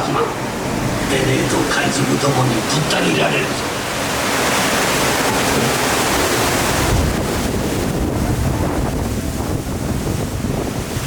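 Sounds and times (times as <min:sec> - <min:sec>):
water rushing around boat: 0:00.0 - 0:11.0
wind buffeting microphone: 0:00.0 - 0:11.0.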